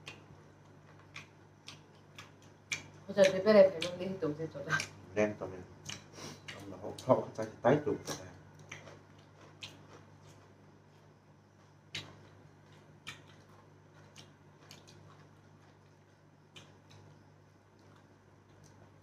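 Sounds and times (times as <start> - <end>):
mouth and finger clicks eating: 0.0 - 4.0, 4.7 - 5.0, 5.8 - 7.2, 8.0 - 10.6, 11.8 - 18.9
low steady hum: 0.0 - 19.0.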